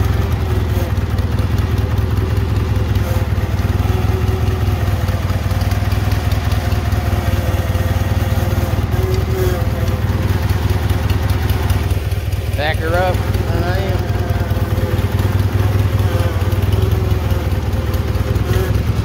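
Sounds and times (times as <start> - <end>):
garden tractor engine running: 0.0 - 19.0.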